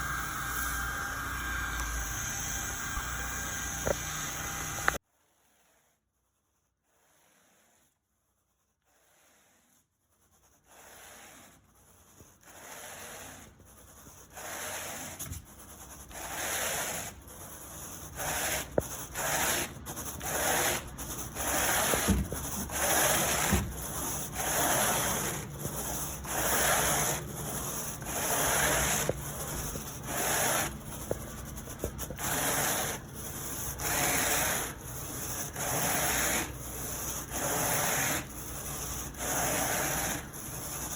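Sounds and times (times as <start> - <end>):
carpet rake scratching carpet: 0.2 - 40.9.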